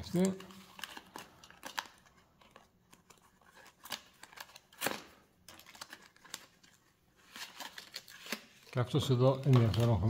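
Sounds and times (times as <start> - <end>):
plastic packaging clicks and crinkles: 0.0 - 10.0.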